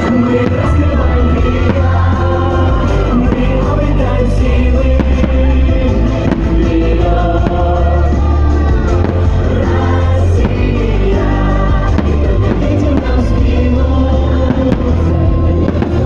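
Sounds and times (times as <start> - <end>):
fireworks banging: 0.0 - 16.0
music with singing over loudspeakers: 0.0 - 16.0.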